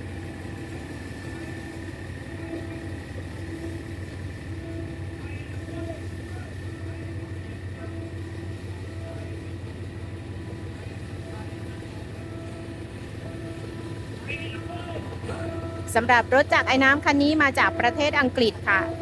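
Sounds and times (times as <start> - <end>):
locomotive engine idling: 0.0 - 19.0.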